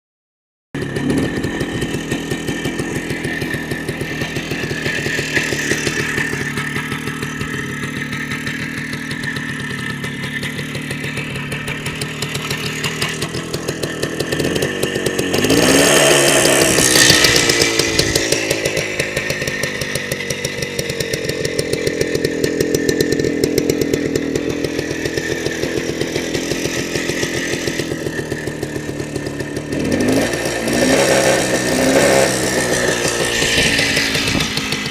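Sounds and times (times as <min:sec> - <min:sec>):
motorcycle engine idling and revving: 0:00.8 - 0:34.9.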